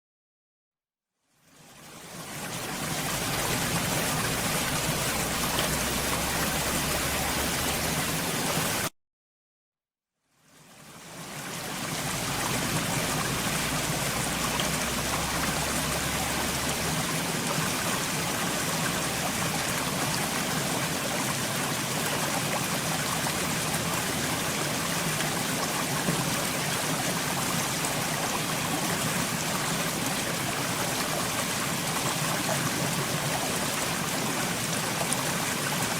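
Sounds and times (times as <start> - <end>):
running water rushing: 1.8 - 8.9, 10.8 - 35.9.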